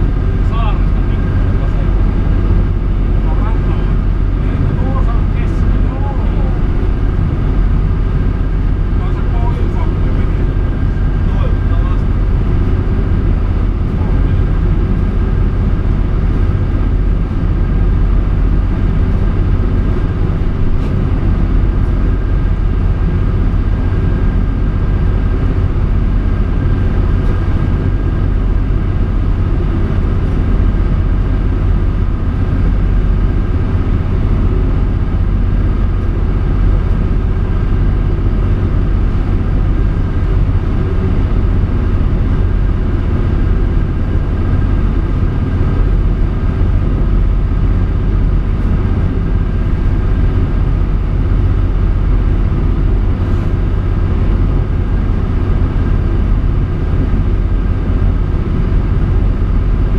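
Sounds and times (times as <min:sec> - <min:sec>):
boat engine droning: 0:00.0 - 0:59.9
thin steady whine: 0:00.0 - 0:59.9.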